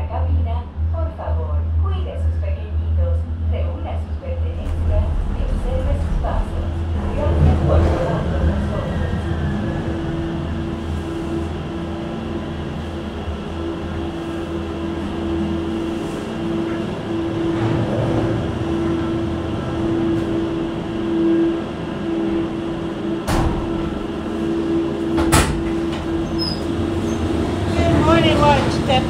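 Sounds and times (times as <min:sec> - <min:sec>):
gondola mechanical hum: 0:00.0 - 0:29.0.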